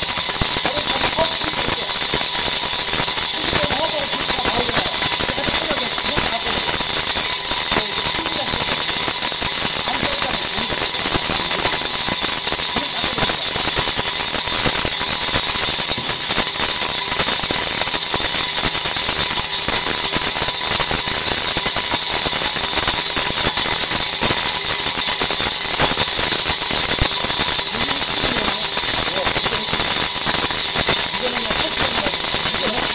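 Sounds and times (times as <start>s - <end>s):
faint steady whine: 0.0s - 32.9s.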